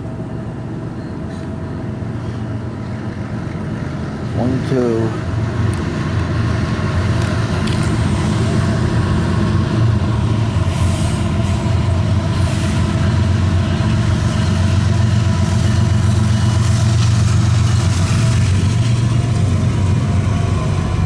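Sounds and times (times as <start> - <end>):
diesel locomotive engine hum: 0.0 - 21.0.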